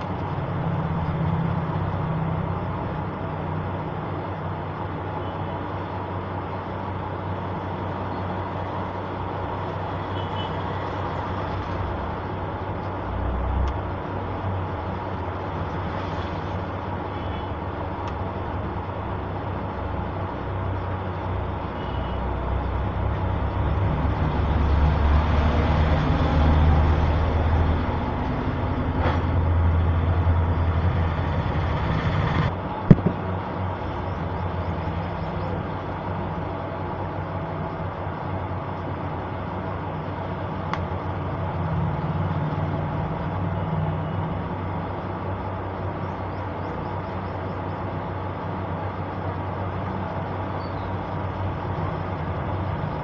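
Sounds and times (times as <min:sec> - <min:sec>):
low mechanical rumble: 0:00.0 - 0:53.0.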